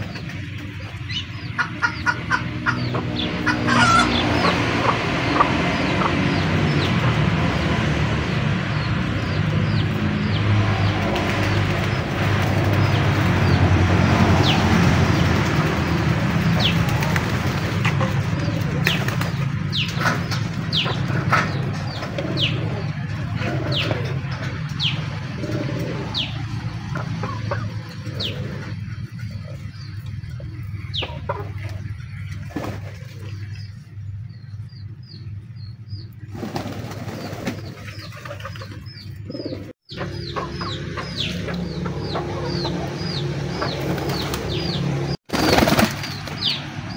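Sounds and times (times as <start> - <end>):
pigeons cooing: 0.0 - 33.6, 36.4 - 46.6
small birds chirping: 0.0 - 46.9.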